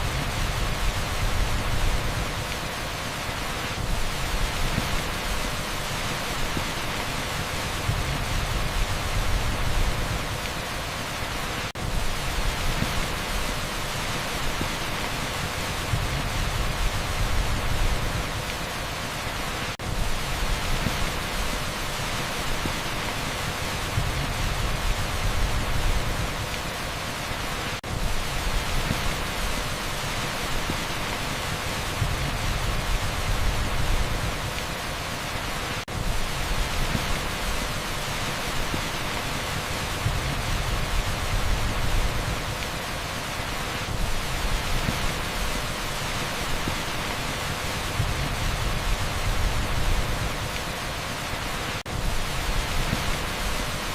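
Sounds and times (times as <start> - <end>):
heavy rain on a street: 0.0 - 53.9.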